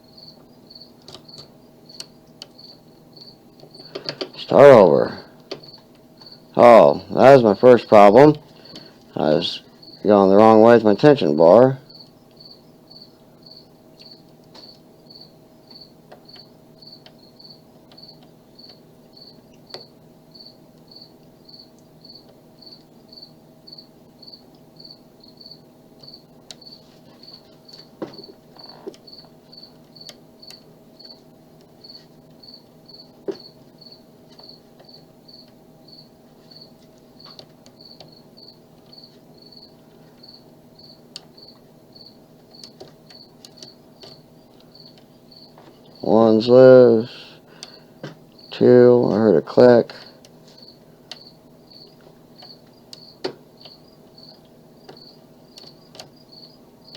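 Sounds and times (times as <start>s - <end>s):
cricket chirping: 0.0s - 7.8s, 8.7s - 10.8s, 11.4s - 31.2s, 31.8s - 47.8s, 48.4s - 49.2s, 50.0s - 56.9s
low steady hum: 0.0s - 56.9s.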